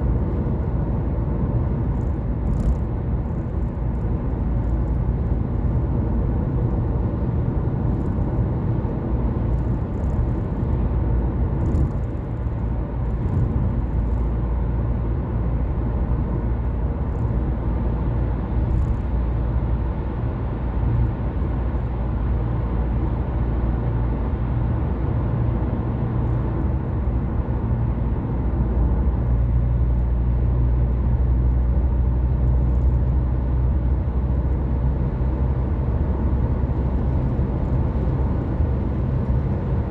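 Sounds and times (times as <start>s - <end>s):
car engine hum: 0.0s - 39.9s.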